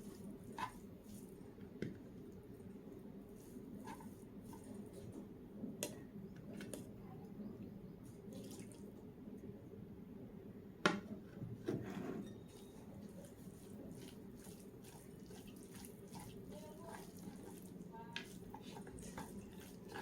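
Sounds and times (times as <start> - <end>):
quiet eating sounds: 0.0 - 9.8, 12.0 - 20.0.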